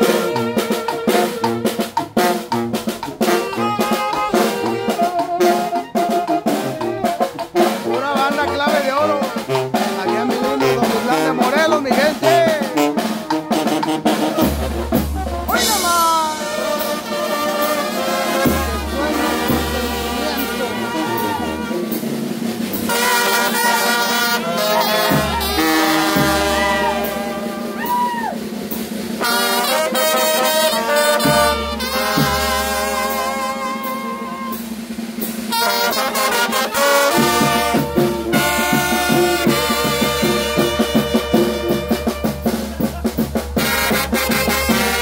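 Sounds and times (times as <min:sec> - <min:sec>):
brass band playing: 0:00.0 - 0:45.0.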